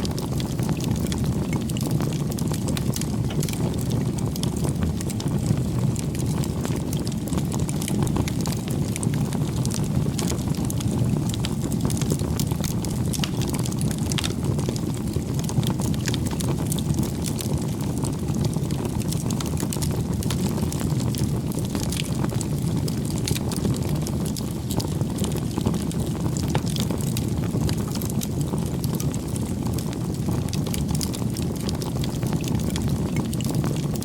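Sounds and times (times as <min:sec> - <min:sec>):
bonfire flames rushing: 0:00.0 - 0:34.0
wood crackling and popping: 0:00.0 - 0:34.0.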